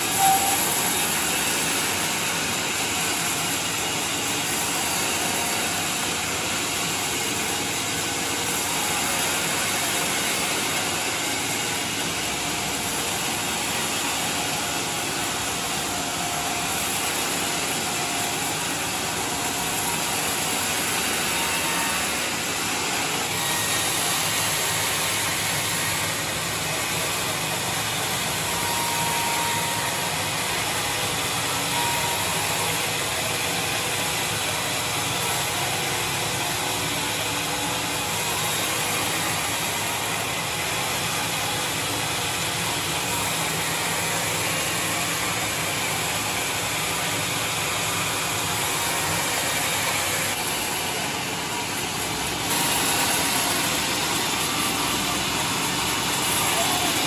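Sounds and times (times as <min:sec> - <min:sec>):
band sawmill running: 0:00.0 - 0:57.0.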